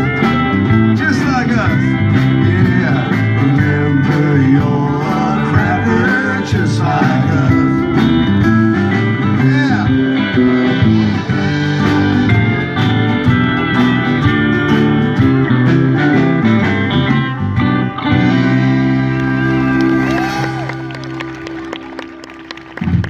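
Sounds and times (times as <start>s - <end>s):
drums: 0.0s - 23.0s
electric and acoustic guitars: 0.0s - 23.0s
pedal steel guitar: 0.0s - 23.0s.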